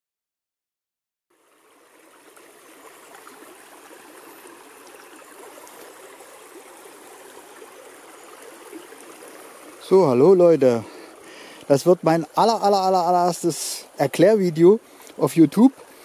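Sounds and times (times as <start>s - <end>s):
brook running over stones: 1.3s - 16.0s.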